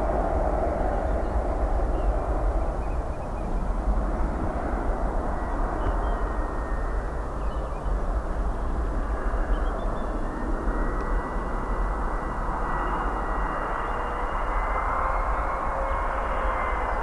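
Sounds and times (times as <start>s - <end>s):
high fan whine: 0.0s - 17.0s
jet airliner engines rumbling: 0.0s - 17.0s.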